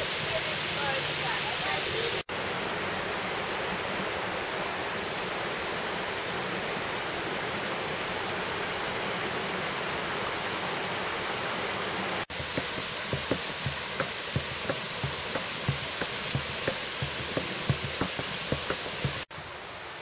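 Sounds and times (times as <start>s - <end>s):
water cascading over rocks: 0.0s - 20.0s.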